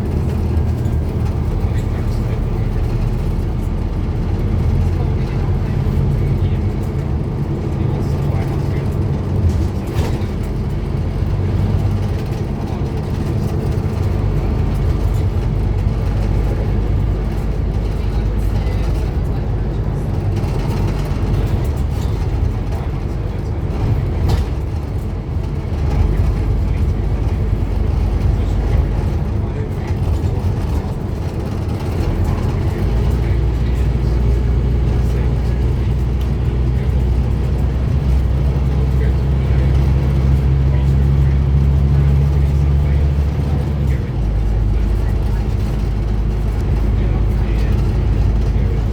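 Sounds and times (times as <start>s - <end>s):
bus diesel engine running: 0.0s - 48.9s.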